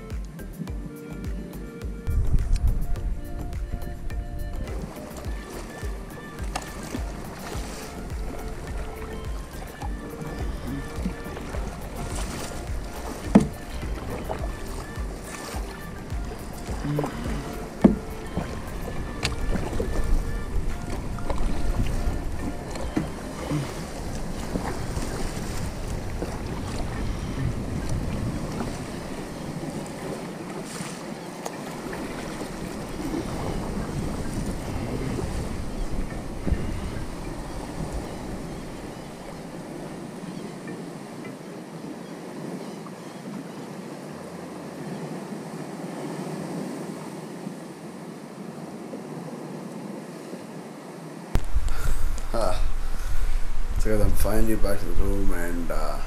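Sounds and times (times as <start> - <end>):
wind rumbling on microphone: 0.0 - 41.3, 51.3 - 56.0
kayak paddle splashes: 0.0 - 48.0
sea water lapping: 0.0 - 56.0.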